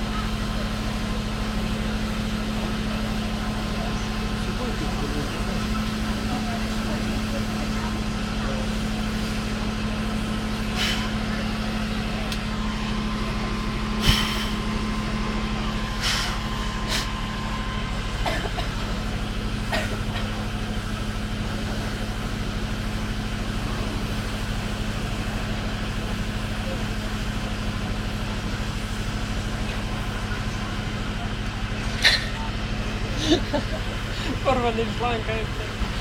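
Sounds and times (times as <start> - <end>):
fire engine motor droning: 0.0 - 36.0.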